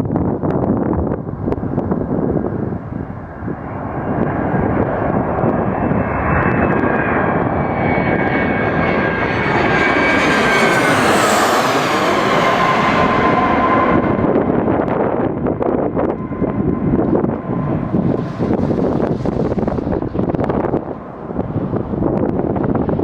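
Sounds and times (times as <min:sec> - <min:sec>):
jet airliner engine whine: 0:00.0 - 0:23.0
wind on microphone: 0:00.0 - 0:23.0.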